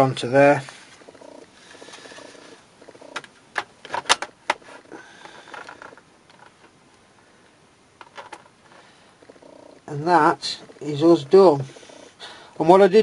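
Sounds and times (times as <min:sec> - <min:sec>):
handling and rubbing noise: 0:00.0 - 0:06.8, 0:08.0 - 0:12.8.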